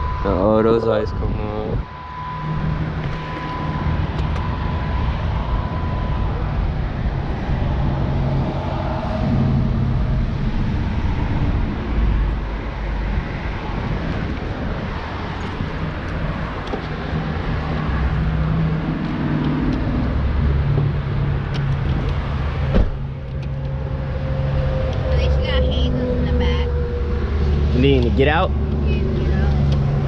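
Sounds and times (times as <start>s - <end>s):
outdoor noise: 0.0s - 30.0s.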